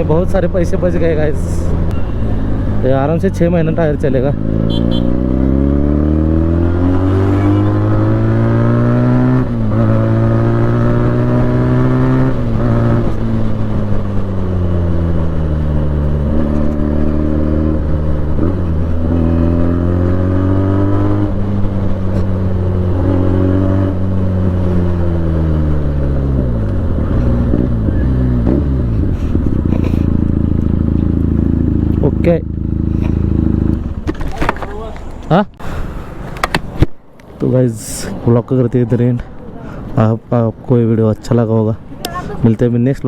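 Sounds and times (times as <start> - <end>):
motorcycle engine shifting gears: 0.0 - 35.6.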